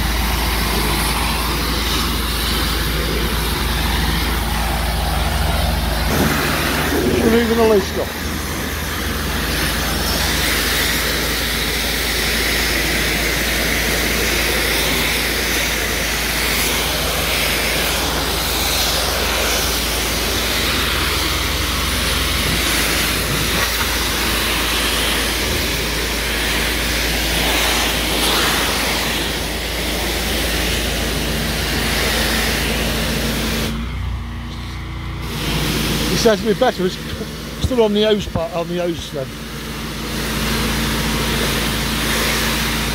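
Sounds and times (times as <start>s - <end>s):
pressure washer machine hum: 0.0s - 42.9s
pressure washer spray hissing: 0.0s - 42.9s.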